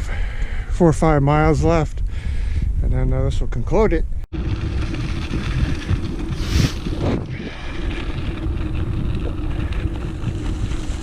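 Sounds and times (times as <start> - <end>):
wind buffeting microphone: 0.2 - 11.0.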